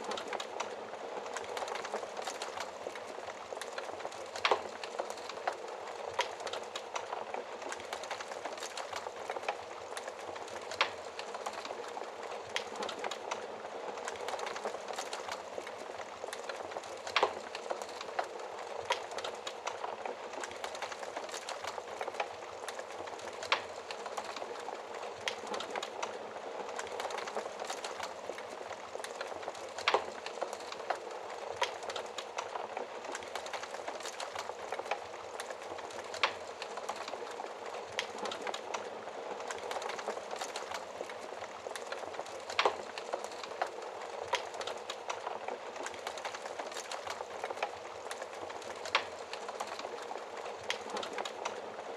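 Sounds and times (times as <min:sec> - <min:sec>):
fireplace fire crackling: 0:00.0 - 0:51.9.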